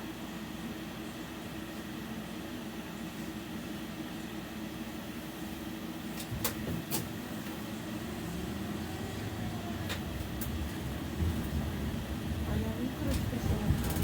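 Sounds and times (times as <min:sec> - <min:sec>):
tram running low hum: 0:00.0 - 0:14.0.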